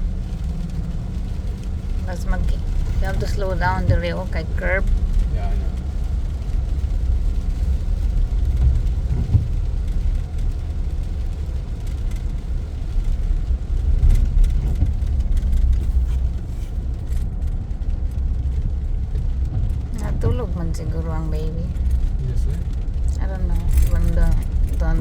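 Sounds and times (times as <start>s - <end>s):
engine and road rumble in cab: 0.0s - 25.0s.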